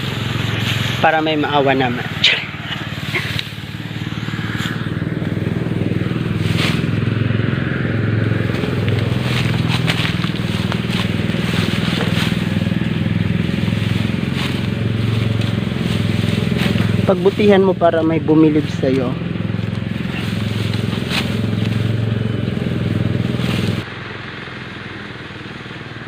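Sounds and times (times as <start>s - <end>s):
sickle cutting rice stalks: 0.0s - 26.0s
small engine droning: 0.0s - 26.0s.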